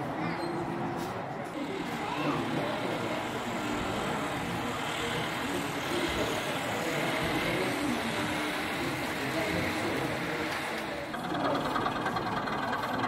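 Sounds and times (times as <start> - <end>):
faint murmuring voices: 0.0 - 13.0.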